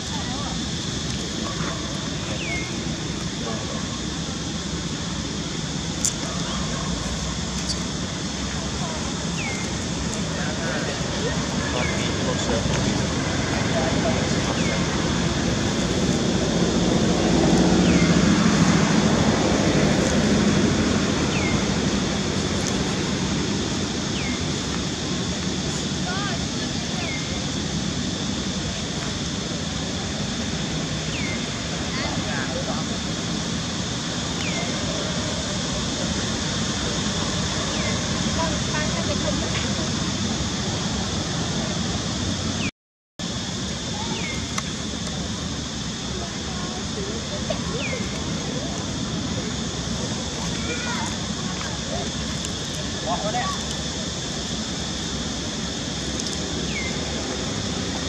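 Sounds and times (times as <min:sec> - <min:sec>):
outdoor noise: 0:00.0 - 0:58.0.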